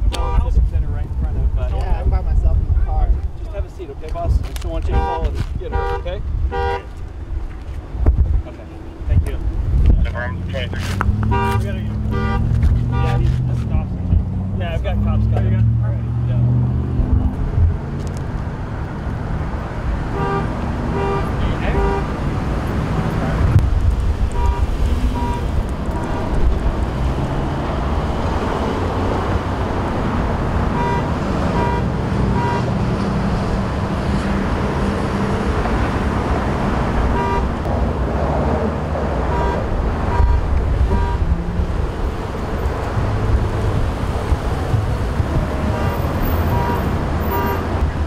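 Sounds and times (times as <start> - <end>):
road traffic: 0.0 - 48.0.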